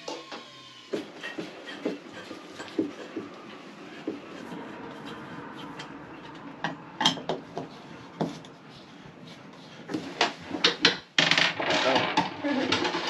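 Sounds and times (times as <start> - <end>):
objects knocking and clunking: 0.0 - 13.0.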